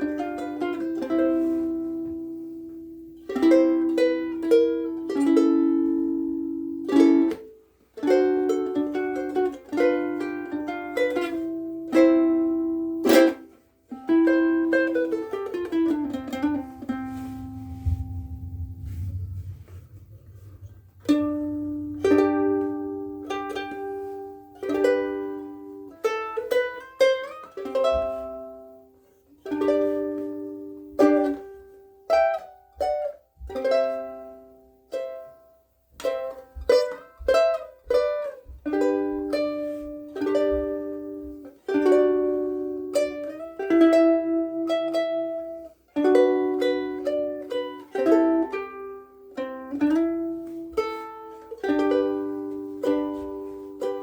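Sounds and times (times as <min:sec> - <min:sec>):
solo ukulele playing: 0:00.0 - 0:54.0.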